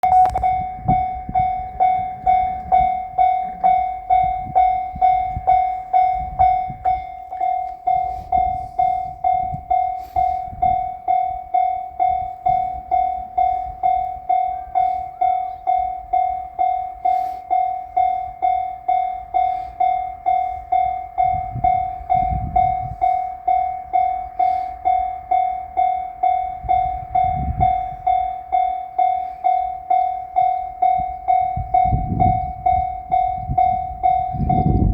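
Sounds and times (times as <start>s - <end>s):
level-crossing warning bell: 0.0s - 34.9s.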